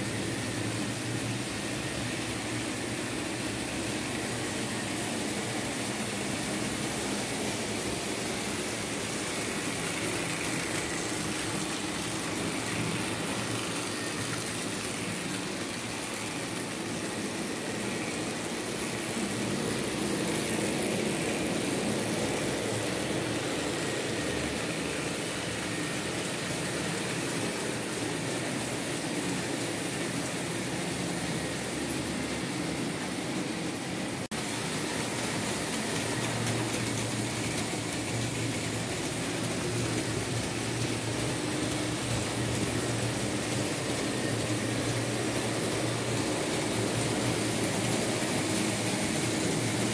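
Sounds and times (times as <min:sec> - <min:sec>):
model train motors humming: 0:00.0 - 0:49.9
wheels rolling on track: 0:00.1 - 0:49.9.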